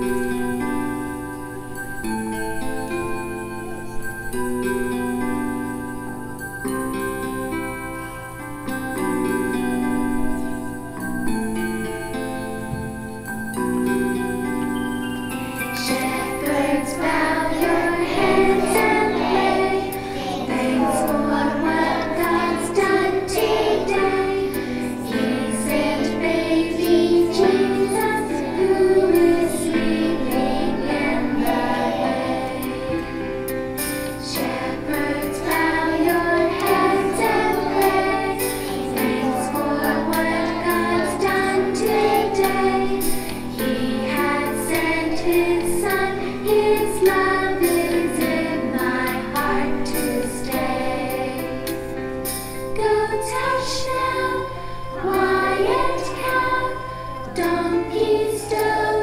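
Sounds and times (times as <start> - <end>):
children's choir singing a hymn: 0.0 - 6.5, 13.8 - 59.0.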